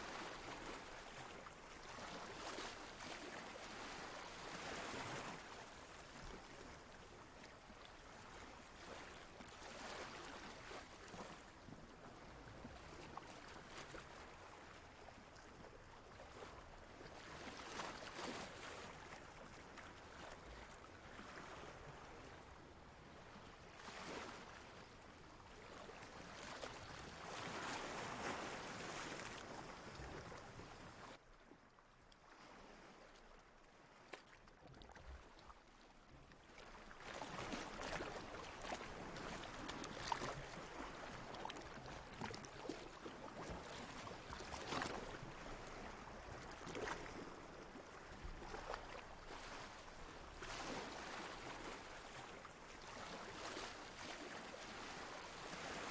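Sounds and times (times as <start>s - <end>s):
water lapping: 0.0s - 31.2s, 32.2s - 55.9s.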